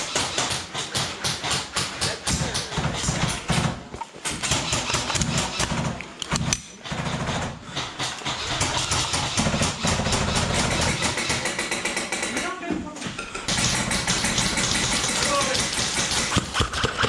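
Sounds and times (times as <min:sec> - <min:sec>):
airsoft guns firing bursts: 0:00.0 - 0:12.6, 0:13.2 - 0:17.0.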